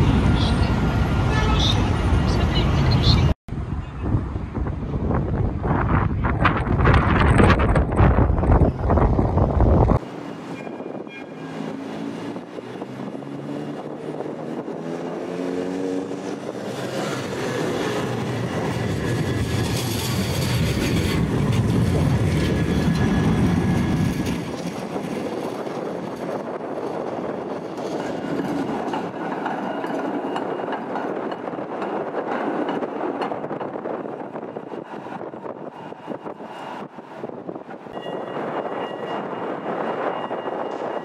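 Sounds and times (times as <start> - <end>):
tram approaching: 0.0 - 41.0.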